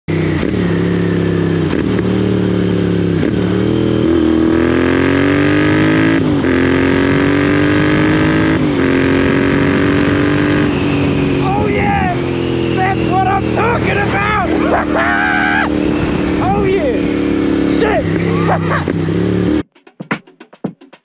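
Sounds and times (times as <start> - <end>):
motorcycle exhaust accelerating: 0.1 - 19.7.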